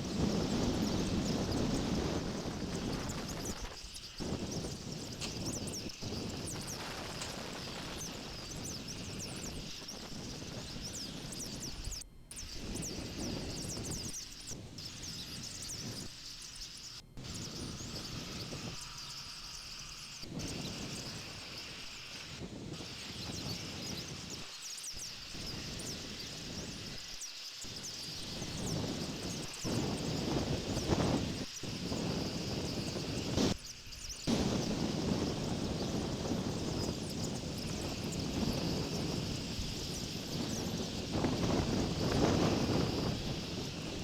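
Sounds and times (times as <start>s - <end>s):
wind rushing against microphone: 0.0s - 16.1s, 20.2s - 24.5s, 27.7s - 33.6s, 34.2s - 44.0s
steady high hiss: 0.0s - 44.0s.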